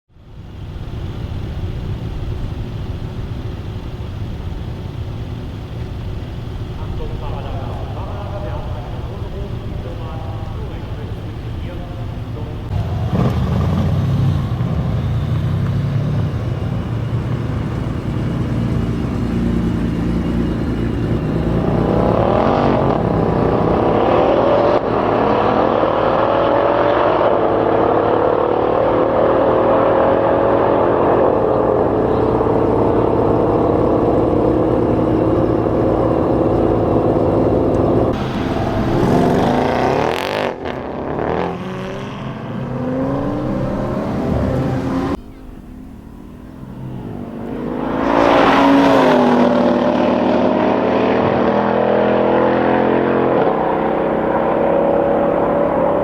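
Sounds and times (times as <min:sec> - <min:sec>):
engine revving: 0:06.3 - 0:56.0.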